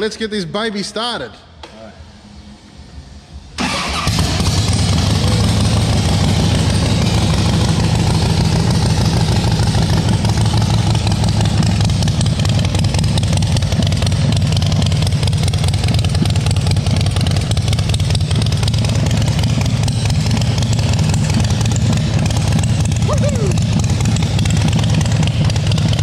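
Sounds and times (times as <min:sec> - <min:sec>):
loud motorcycle engine running: 0:03.6 - 0:26.0.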